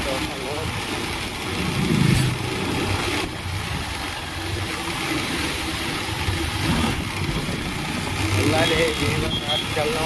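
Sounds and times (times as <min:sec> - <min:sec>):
motorcycle engine running: 0:00.0 - 0:10.0
steady rush of noise: 0:00.0 - 0:10.0.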